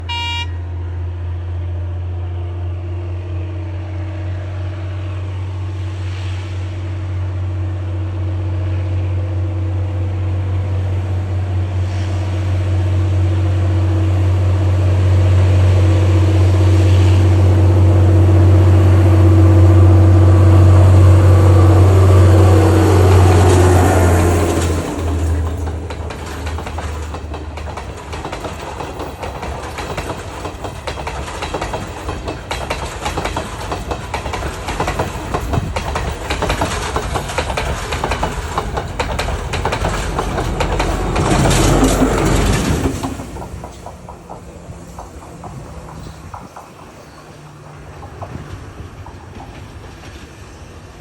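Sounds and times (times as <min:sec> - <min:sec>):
diesel train engine droning: 0:00.0 - 0:51.0.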